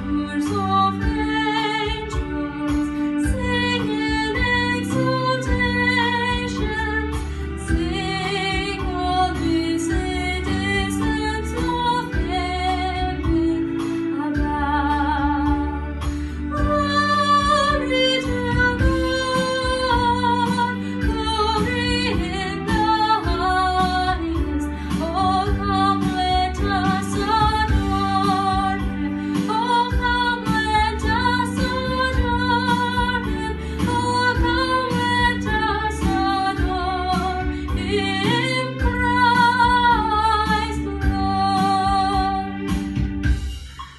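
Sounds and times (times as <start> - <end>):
girl singing: 0.0 - 42.6
instrumental accompaniment with beat: 0.0 - 43.9.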